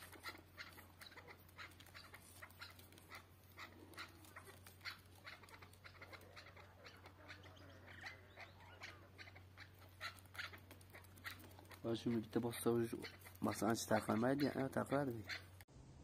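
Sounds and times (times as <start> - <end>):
partridges clucking: 0.0 - 15.7.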